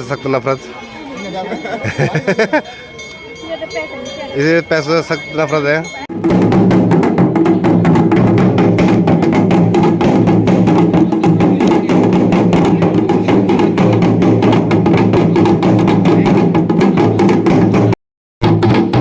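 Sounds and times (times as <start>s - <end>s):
drums beaten in fast rhythm: 3.6s - 19.0s.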